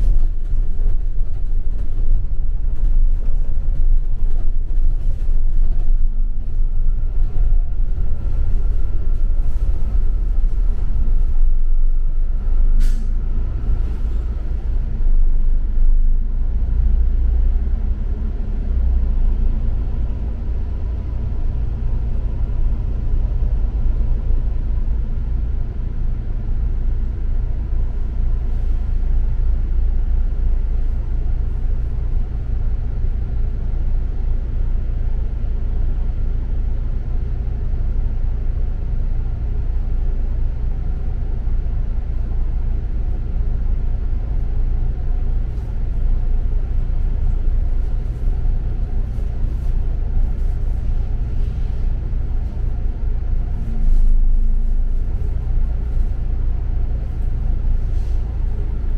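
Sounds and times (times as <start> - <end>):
bus engine: 0.0 - 58.9
road rumble: 0.0 - 58.9.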